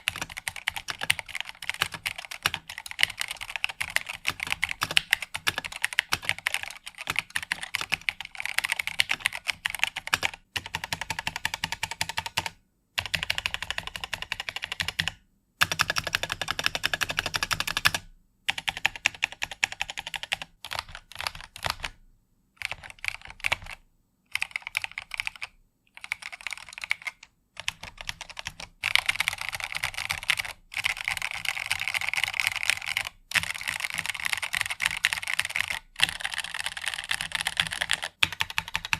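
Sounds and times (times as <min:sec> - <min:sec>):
mechanical keyboard typing: 0:00.0 - 0:22.0, 0:22.6 - 0:38.9.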